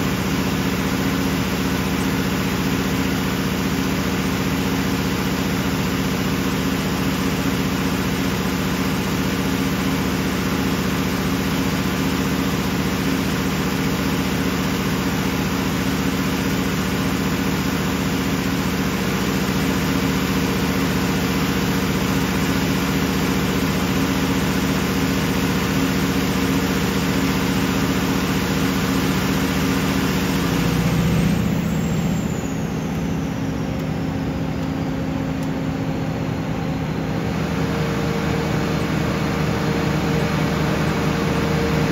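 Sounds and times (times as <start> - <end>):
diesel generator engine droning: 0.0 - 41.9.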